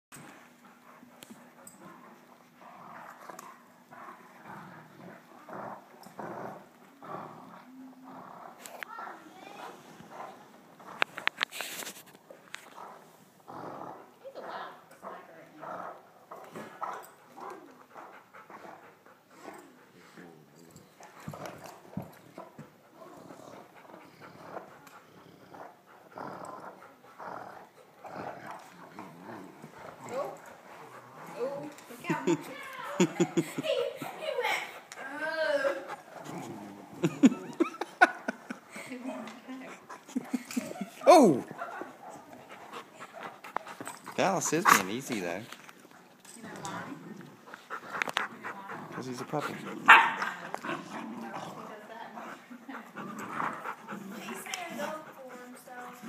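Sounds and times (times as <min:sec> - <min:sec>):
dogs play growling: 0:00.1 - 0:56.0.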